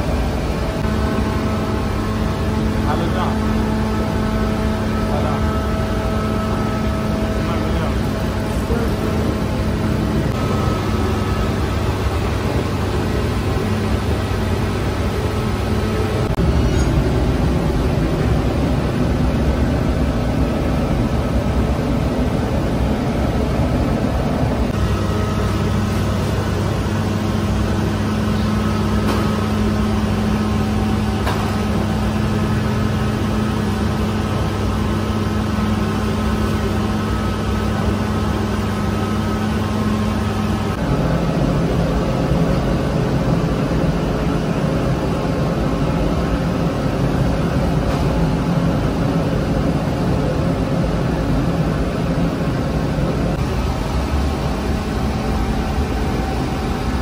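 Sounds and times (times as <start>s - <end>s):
bakery machinery drone: 0.0s - 57.0s.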